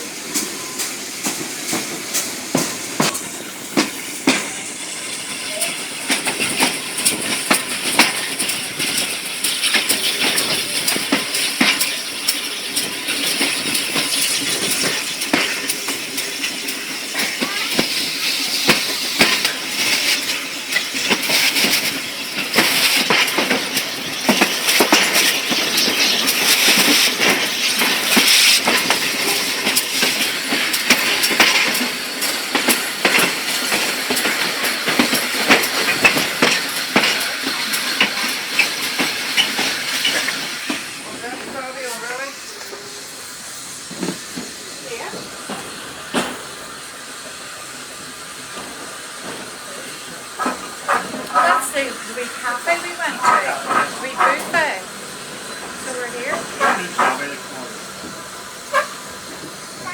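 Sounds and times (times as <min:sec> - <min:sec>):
train rolling noise: 0:00.0 - 0:59.9
train wheels clicking and rattling: 0:00.0 - 0:59.9.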